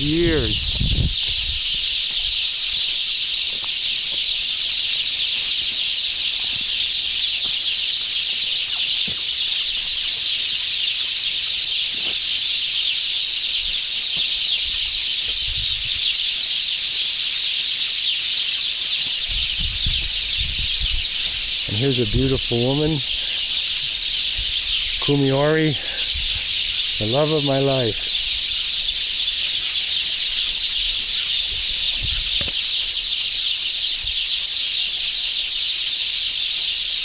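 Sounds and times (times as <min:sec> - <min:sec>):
chorus of birds chirping: 0:00.0 - 0:37.0.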